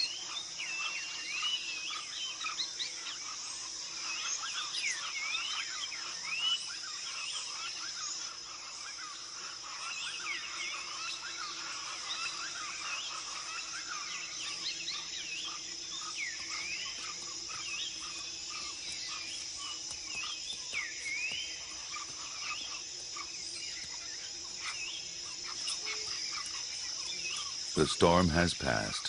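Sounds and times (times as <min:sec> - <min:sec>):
bird calls: 0:00.0 - 0:29.0
high insect drone: 0:00.0 - 0:29.0.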